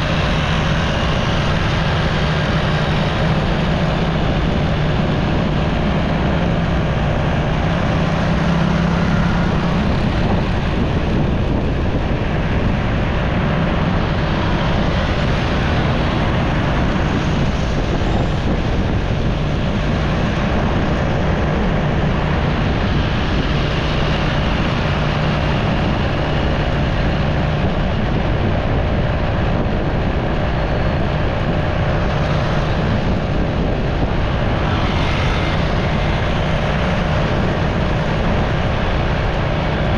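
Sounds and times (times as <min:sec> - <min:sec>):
motorcycle engine hum: 0:00.0 - 0:39.9
wind and road noise: 0:00.0 - 0:39.9.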